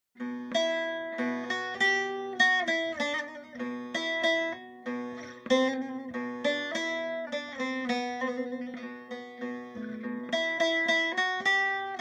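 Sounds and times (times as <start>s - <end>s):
plucked guitar-like melody: 0.2s - 12.0s.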